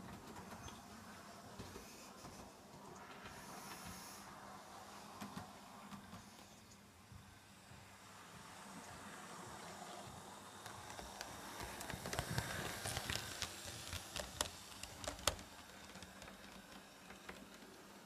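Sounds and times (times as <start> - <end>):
faint motor hum: 0.0 - 18.0.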